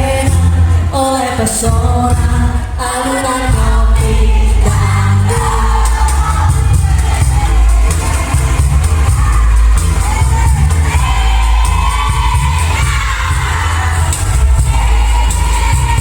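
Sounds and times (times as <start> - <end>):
backing track with heavy bass: 0.0 - 16.0
choir singing: 0.0 - 16.0.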